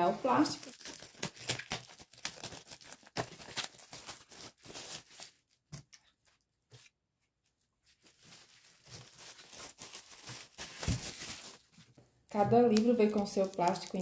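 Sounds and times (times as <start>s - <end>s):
plastic shrink-wrap crinkling and tearing: 0.0s - 6.4s, 7.8s - 14.0s.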